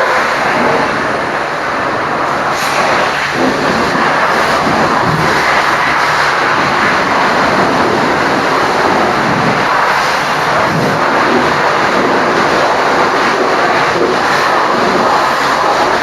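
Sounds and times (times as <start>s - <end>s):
high-pressure water spray hissing: 0.0s - 16.0s.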